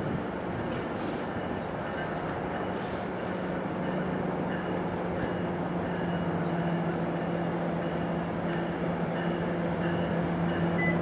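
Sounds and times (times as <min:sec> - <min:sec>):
outdoor background noise: 0:00.0 - 0:11.0
train engine hum: 0:00.0 - 0:11.0.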